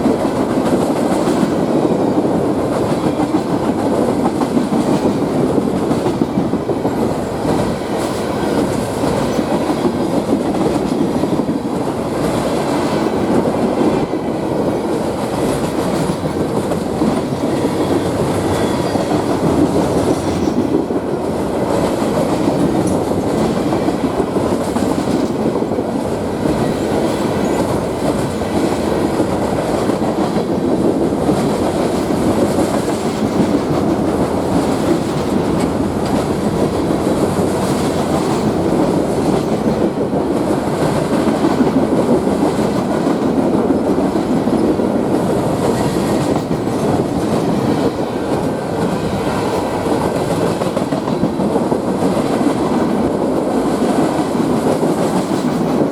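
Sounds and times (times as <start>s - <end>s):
train wheels clattering over rails: 0.0s - 55.9s.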